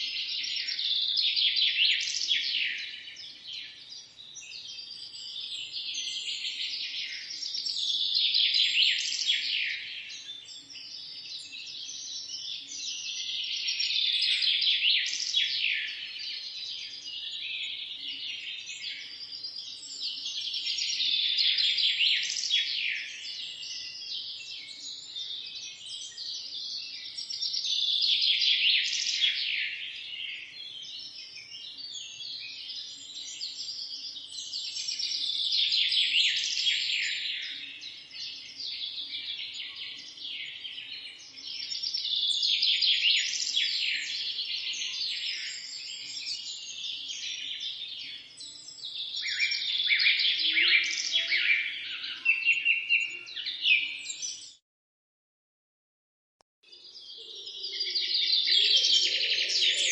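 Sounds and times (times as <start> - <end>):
small birds chirping and singing: 0.0 - 54.6, 56.6 - 59.9.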